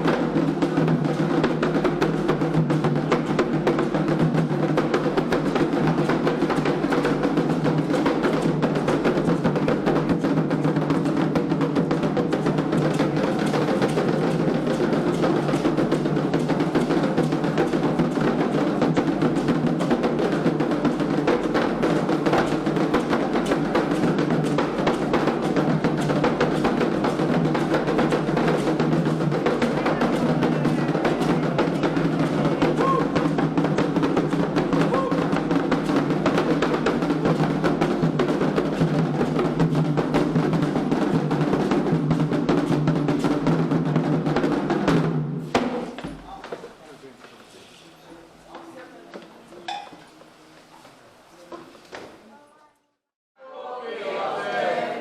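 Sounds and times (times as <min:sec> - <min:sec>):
hand drums playing rhythm: 0:00.0 - 0:46.6.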